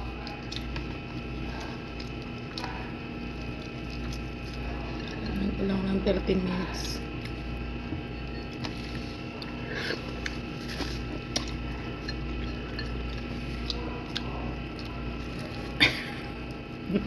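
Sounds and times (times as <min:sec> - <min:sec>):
close-up chewing: 0:00.0 - 0:05.6, 0:07.0 - 0:16.9
steady low hum: 0:00.0 - 0:17.0.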